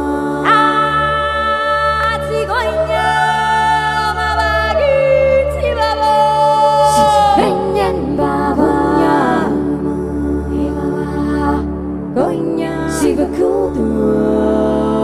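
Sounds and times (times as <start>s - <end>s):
low drone: 0.0s - 15.0s
person singing long sliding notes: 0.0s - 15.0s.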